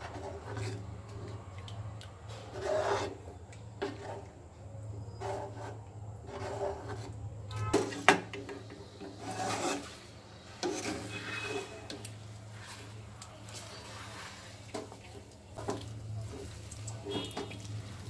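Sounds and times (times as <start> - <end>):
metal ladle scraping pan: 2.3 - 4.4, 5.0 - 18.0.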